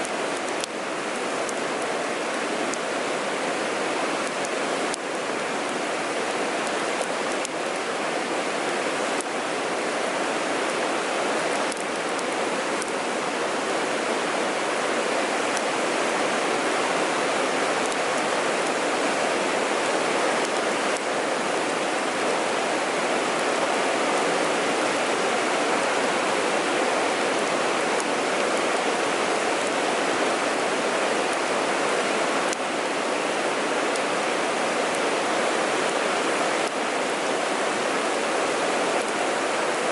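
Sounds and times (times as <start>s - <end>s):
mountain stream water rushing: 0.0s - 39.9s.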